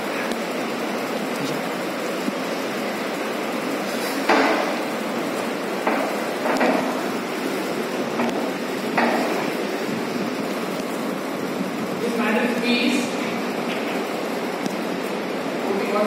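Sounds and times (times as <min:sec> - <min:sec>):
room noise hiss: 0:00.0 - 0:16.0.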